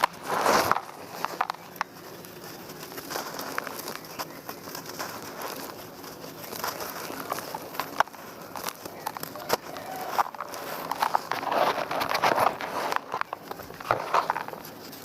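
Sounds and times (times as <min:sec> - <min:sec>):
dry mud crumbling: 0:00.0 - 0:15.0.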